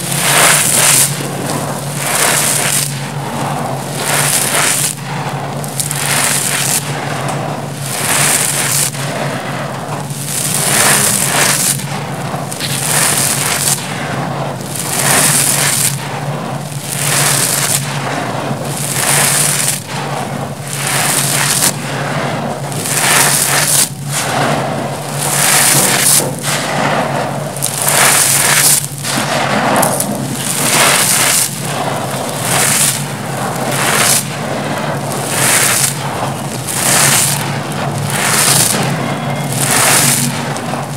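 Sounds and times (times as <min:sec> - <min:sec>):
gravel crunching and pouring: 0:00.0 - 0:40.9.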